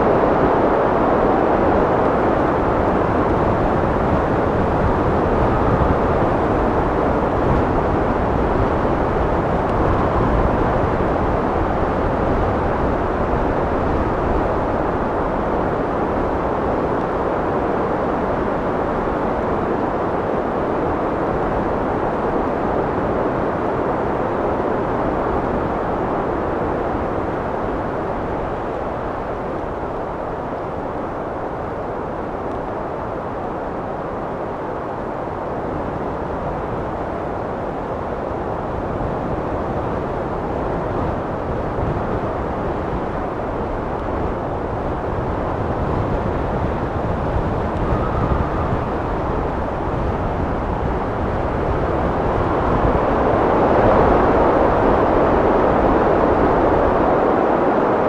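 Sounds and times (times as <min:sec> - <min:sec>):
steady wind blowing: 0:00.0 - 0:58.0.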